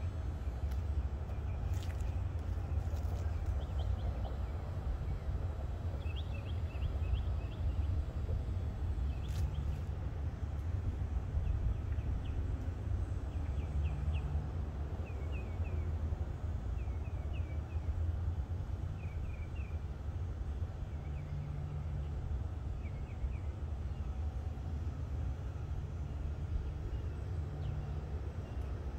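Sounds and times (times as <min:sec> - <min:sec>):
steady low rumble: 0:00.0 - 0:28.9.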